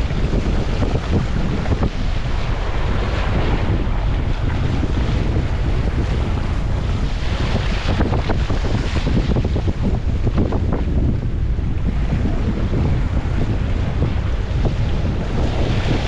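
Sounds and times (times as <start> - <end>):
water splashing along hull: 0.0 - 16.0
wind buffeting microphone: 0.0 - 16.0.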